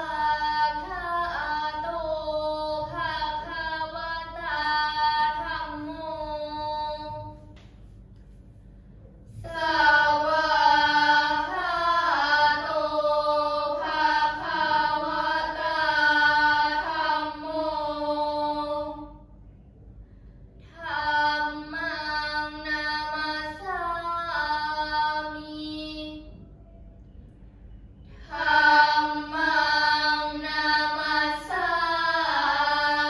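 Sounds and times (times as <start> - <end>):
girls chanting prayers in unison: 0.0 - 19.6, 20.3 - 26.6, 28.0 - 33.0.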